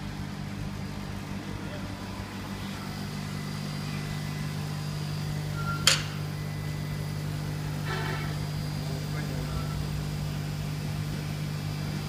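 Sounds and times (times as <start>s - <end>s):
laser engraving machine humming: 0.0s - 12.0s.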